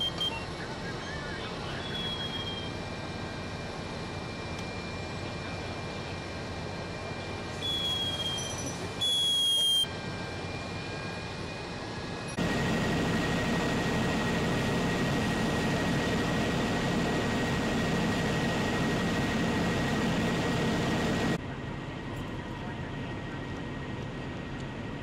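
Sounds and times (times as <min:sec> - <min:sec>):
fire engines droning: 0:00.0 - 0:25.0.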